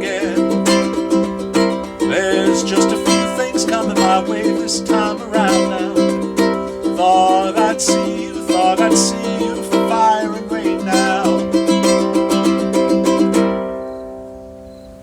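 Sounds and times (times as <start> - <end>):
ukulele strumming: 0.0 - 14.5.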